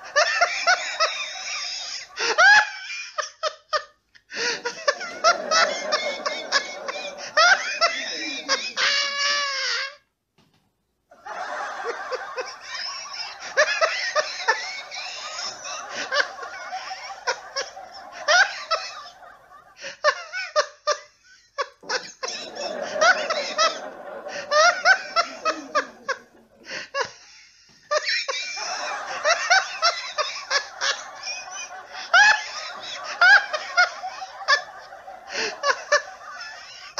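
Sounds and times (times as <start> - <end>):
people laughing hard: 0.0 - 10.0, 11.1 - 36.9.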